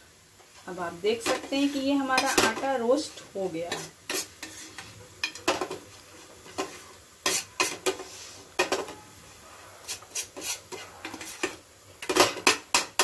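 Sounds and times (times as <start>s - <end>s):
metal spoon scraping a pan: 1.1s - 9.2s, 9.8s - 13.0s.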